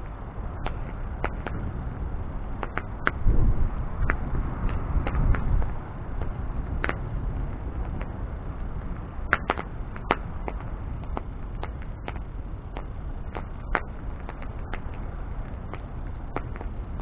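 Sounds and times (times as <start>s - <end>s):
burning wood popping and crackling: 0.0s - 17.0s
low rush of flame: 0.0s - 17.0s.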